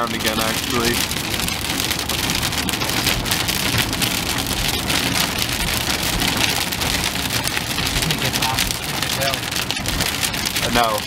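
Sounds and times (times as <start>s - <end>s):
low road rumble: 0.0s - 11.0s
rain pelting car roof: 0.0s - 11.0s.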